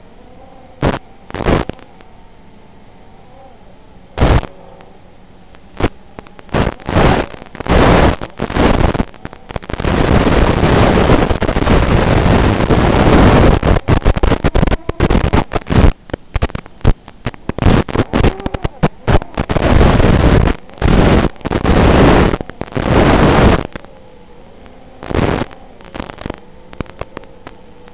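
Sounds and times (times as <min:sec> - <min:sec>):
static hiss and crackle: 0:00.0 - 0:27.9.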